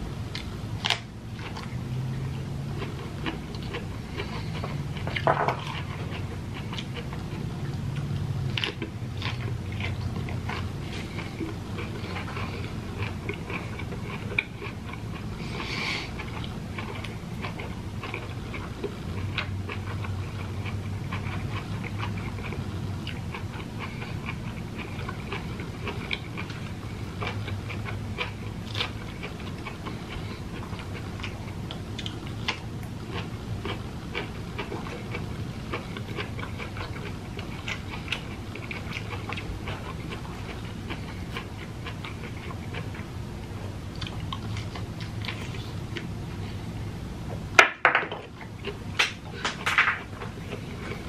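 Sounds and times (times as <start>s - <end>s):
low steady hum: 0.0s - 51.0s
wet chewing and smacking: 0.3s - 46.1s.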